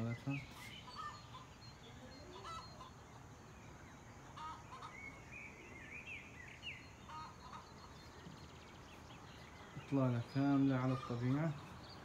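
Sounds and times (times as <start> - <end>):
faint bird chirps and warbling: 0.0 - 12.0.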